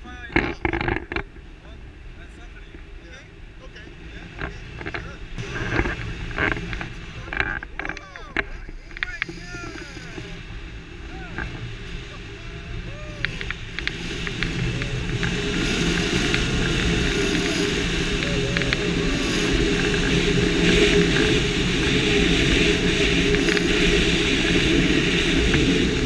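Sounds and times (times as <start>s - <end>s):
wind roaring over microphone: 0.0s - 26.0s.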